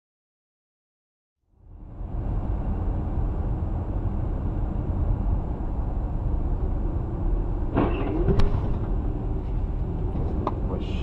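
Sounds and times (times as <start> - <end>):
vehicle driving on road: 1.5 - 11.0.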